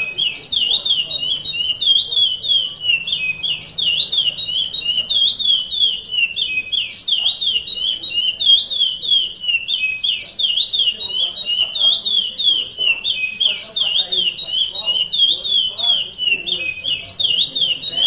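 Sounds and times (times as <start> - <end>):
finch singing quick clear notes: 0.0 - 18.0.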